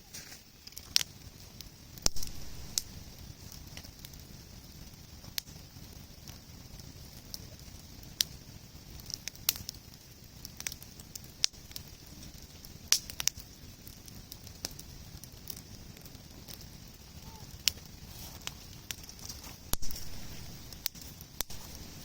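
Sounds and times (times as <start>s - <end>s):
bonfire crackling and popping: 0.0s - 22.0s.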